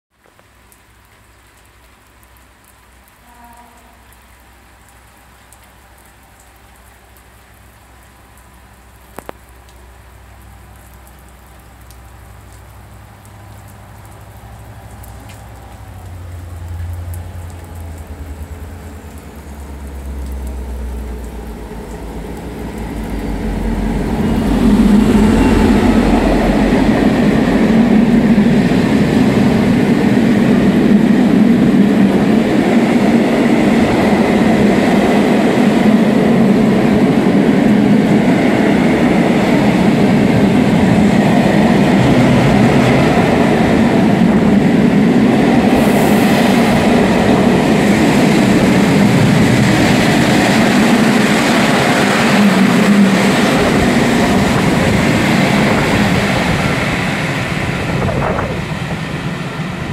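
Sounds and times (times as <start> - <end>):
diesel locomotive passing: 10.0 - 59.9.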